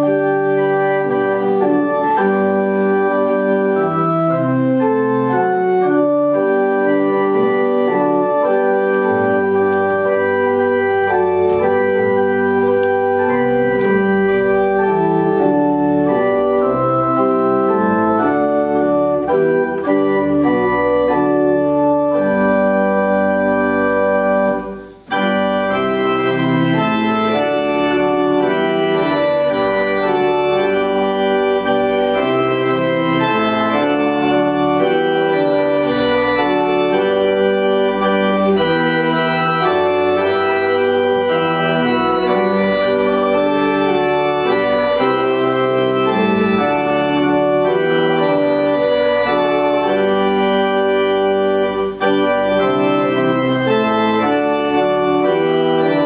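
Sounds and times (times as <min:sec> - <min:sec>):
church organ playing hymn chords: 0:00.0 - 0:56.0.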